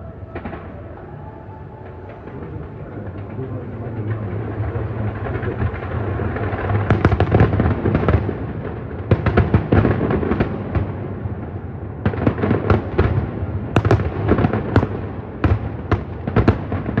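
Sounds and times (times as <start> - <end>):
fireworks bangs and crackles: 0.0 - 17.0
rumble of fireworks bursts: 0.0 - 17.0.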